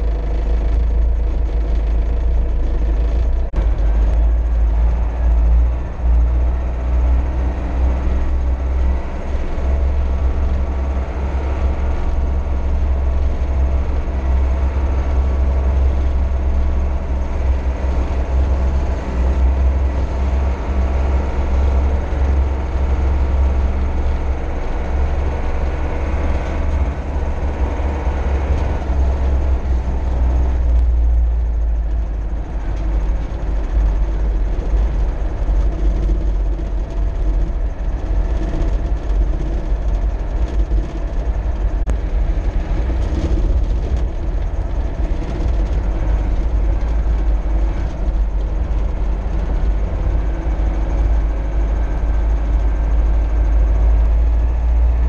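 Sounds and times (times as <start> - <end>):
cab and drivetrain noise: 0.0 - 55.0
tractor diesel engine drone: 0.0 - 55.0.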